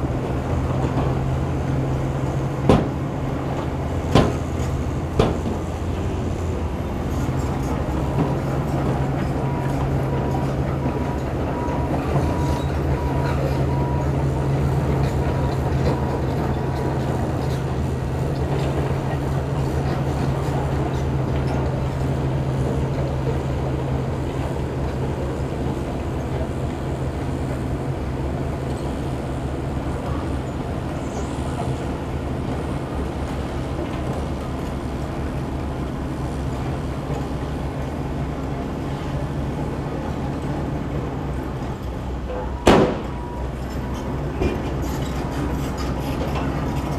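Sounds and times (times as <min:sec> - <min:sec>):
heavy diesel engines droning: 0:00.0 - 0:46.9.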